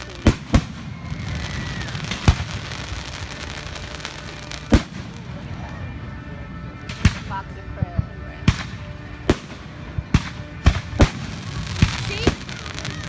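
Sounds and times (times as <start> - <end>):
fireworks shells exploding: 0.0 - 6.0, 6.8 - 7.6, 8.5 - 13.0
rumble and crackle of bursts: 0.0 - 13.0.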